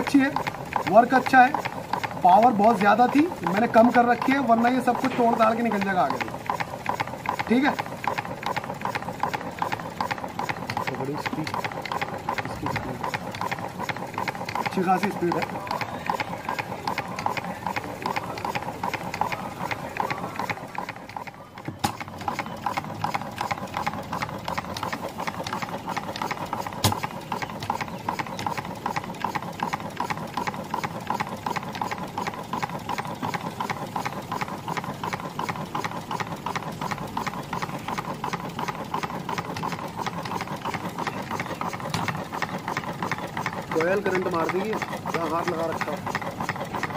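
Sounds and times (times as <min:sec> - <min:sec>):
small petrol engine running fast: 0:00.0 - 0:46.9.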